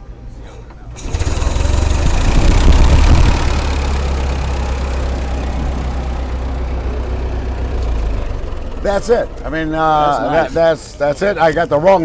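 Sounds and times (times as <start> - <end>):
car engine idling: 0.4 - 11.6.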